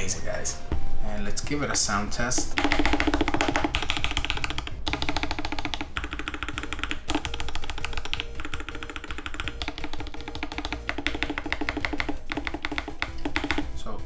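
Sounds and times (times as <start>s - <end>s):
chiptune music: 0.0s - 14.0s
mechanical keyboard keystrokes: 2.4s - 13.7s.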